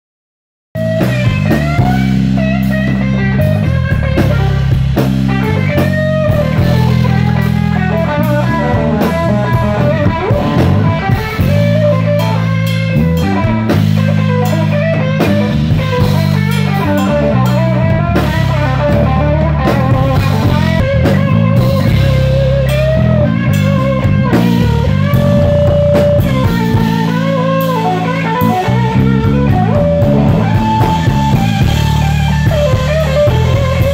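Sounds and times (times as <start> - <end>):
blues-rock band playing: 0.8 - 33.9
electric guitar lead line: 0.8 - 33.9.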